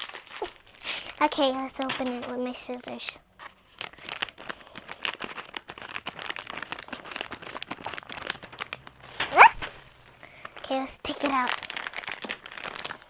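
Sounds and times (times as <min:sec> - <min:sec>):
plastic packaging crinkling: 0:00.0 - 0:13.0
scissors cutting plastic: 0:00.2 - 0:13.0.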